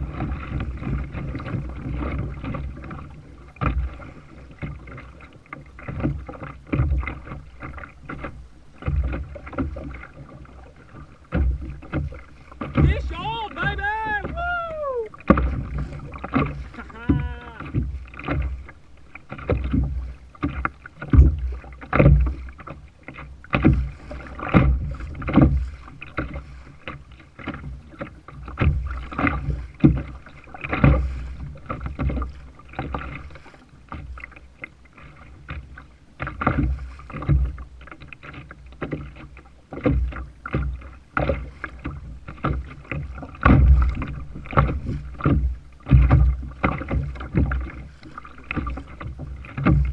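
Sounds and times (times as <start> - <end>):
water slapping kayak hull: 0.0 - 49.9.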